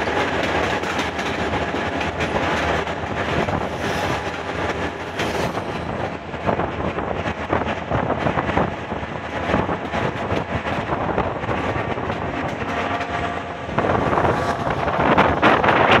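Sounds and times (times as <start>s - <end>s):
moving train running noise: 0.0s - 16.0s
wind buffeting microphone: 0.0s - 16.0s.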